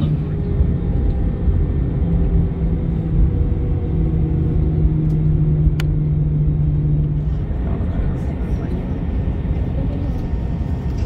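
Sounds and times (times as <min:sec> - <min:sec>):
aircraft cabin rumble: 0:00.0 - 0:11.0
engines humming: 0:00.0 - 0:11.0.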